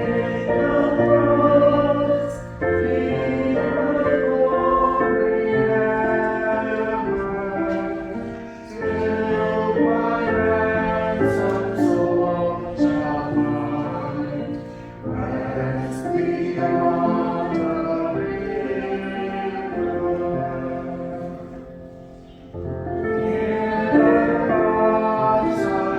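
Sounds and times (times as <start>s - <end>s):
choir singing a hymn: 0.0s - 25.9s.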